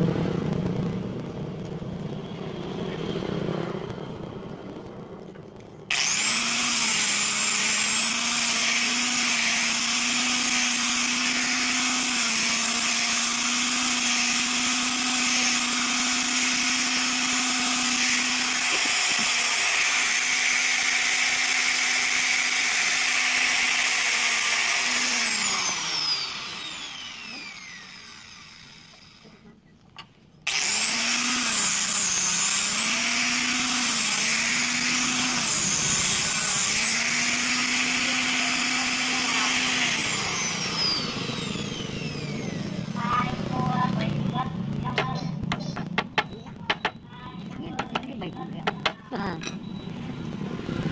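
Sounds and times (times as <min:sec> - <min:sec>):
angle grinder whining: 0:05.9 - 0:29.6, 0:30.4 - 0:49.6.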